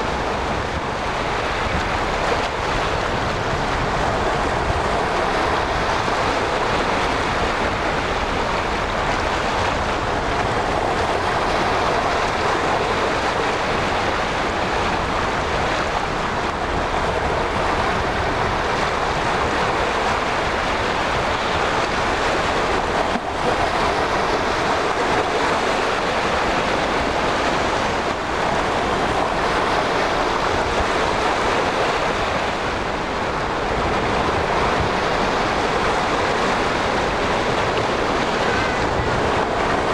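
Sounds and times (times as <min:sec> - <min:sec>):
sea rushing: 0:00.0 - 0:39.9
wind buffeting microphone: 0:00.0 - 0:39.9.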